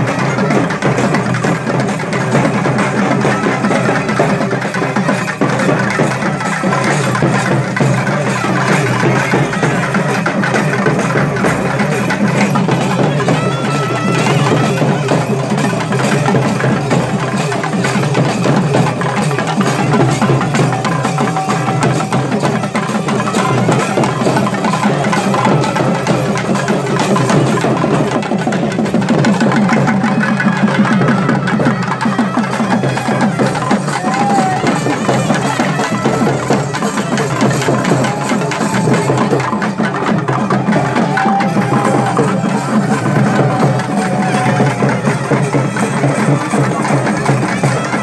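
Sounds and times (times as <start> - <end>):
festival drum music: 0.0 - 48.0.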